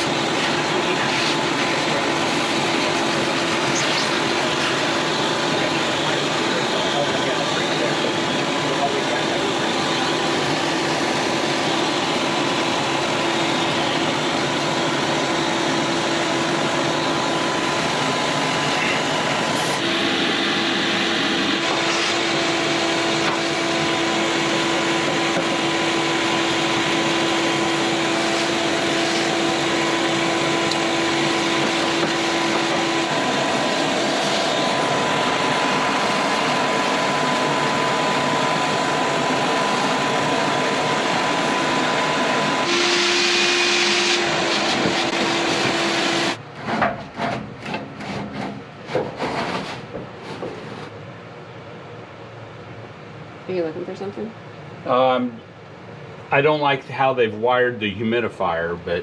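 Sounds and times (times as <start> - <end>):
shop vac whining: 0.0 - 59.0.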